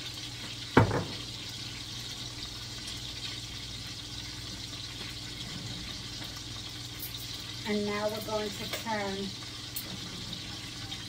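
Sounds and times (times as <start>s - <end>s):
sausages sizzling in a pan: 0.0s - 11.0s.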